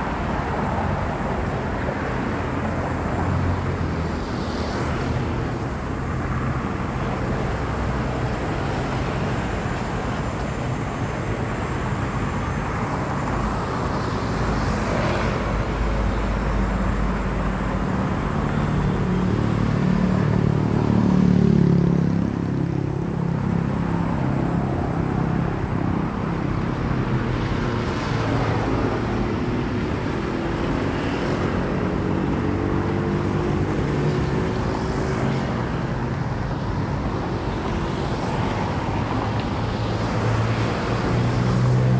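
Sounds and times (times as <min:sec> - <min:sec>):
vehicle engines passing: 0:00.0 - 0:41.9.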